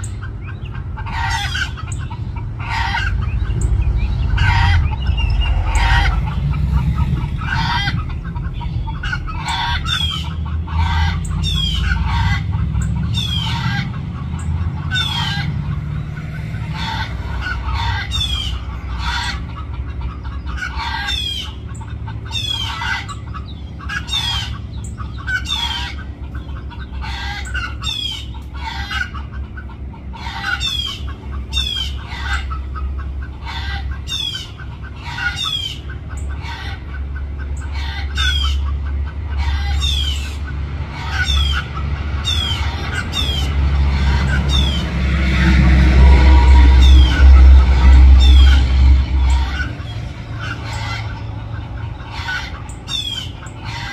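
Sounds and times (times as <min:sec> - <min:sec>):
chickens calling: 0:00.0 - 0:53.9
low steady rumble: 0:00.0 - 0:53.9.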